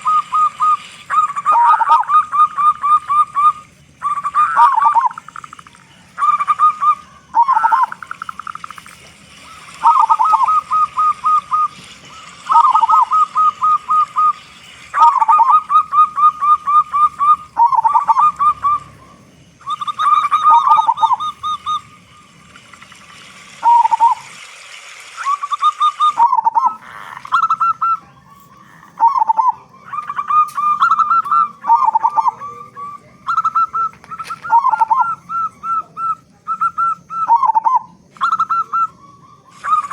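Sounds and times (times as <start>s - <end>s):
dove cooing: 0.0s - 24.4s, 25.2s - 39.9s.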